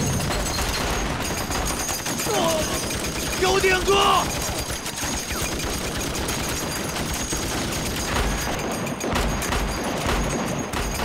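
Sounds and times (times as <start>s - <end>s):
rapid gunfire: 0.0s - 11.0s.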